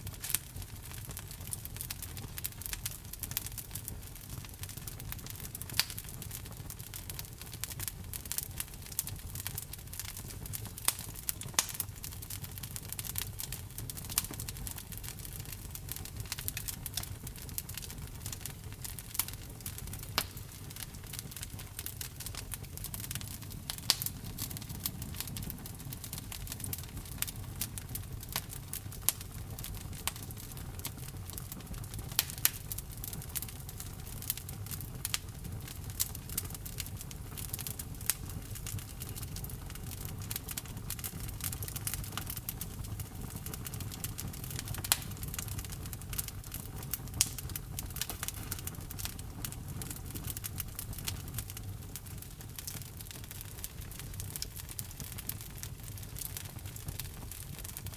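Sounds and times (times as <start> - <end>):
logs crackling and popping: 0.0 - 57.9
rumble of flames: 0.0 - 57.9.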